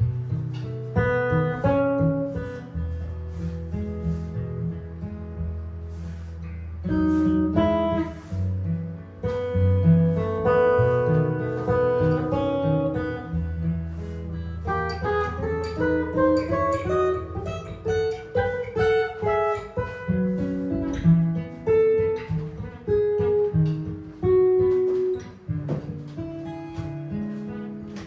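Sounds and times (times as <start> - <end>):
jazz guitar playing: 0.0 - 28.0.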